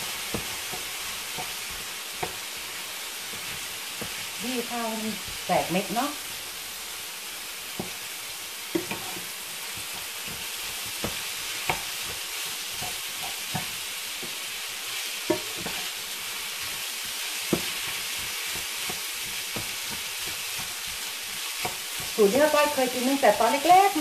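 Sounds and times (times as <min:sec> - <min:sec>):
spatula knocking and scraping pan: 0:00.0 - 0:06.5, 0:07.7 - 0:08.1, 0:08.7 - 0:23.3
rice sizzling in a frying pan: 0:00.0 - 0:24.0.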